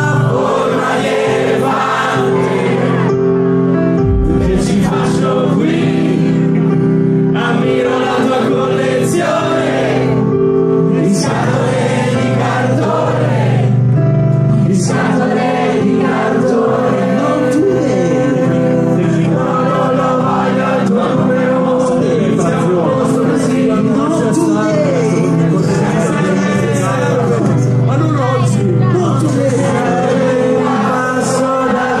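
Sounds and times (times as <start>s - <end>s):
crowd singing with live music: 0.0s - 28.4s, 29.3s - 32.0s
live music sustained chords: 0.0s - 32.0s.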